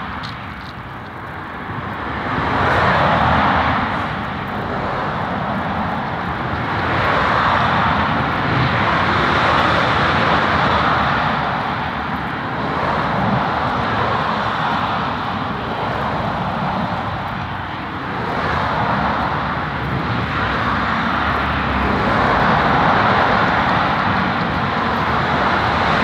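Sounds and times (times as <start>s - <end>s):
loud steady rushing noise: 0.0s - 26.0s.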